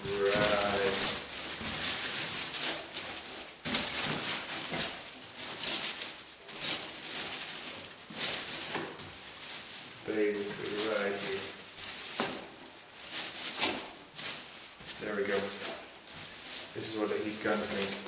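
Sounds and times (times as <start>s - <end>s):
aluminum foil crinkling: 0.0s - 18.0s.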